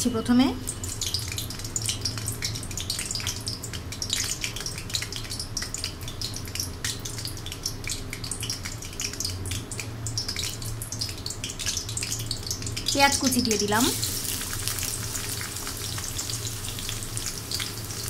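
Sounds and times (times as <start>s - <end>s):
chilies sizzling in hot oil: 0.0s - 18.0s.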